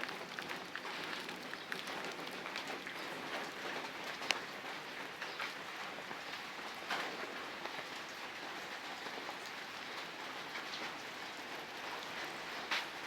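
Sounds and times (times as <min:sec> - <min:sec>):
louder raindrops: 0:00.0 - 0:13.0
steady rain falling: 0:00.0 - 0:13.0.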